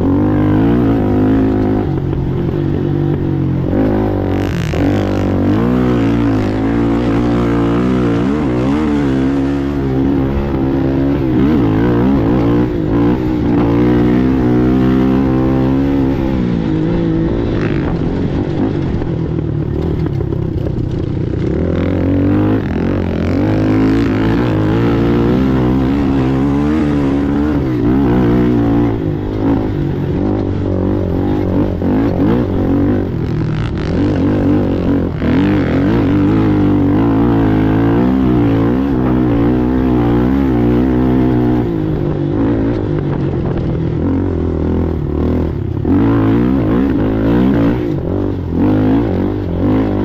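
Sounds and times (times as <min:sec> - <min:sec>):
atv engine revving: 0:00.0 - 0:50.0.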